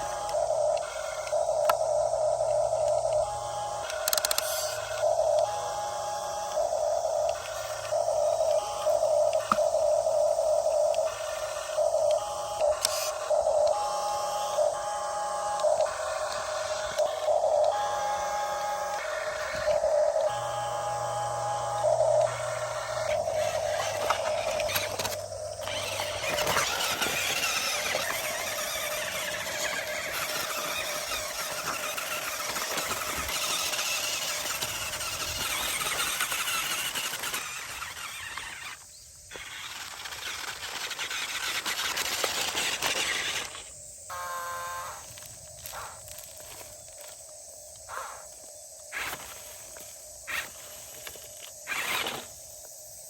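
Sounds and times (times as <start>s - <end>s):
toy electric motors whining: 0.0s - 53.0s.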